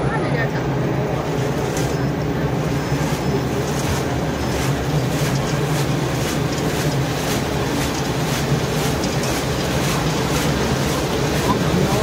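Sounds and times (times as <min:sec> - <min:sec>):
popcorn kettle motor drone: 0:00.0 - 0:12.0.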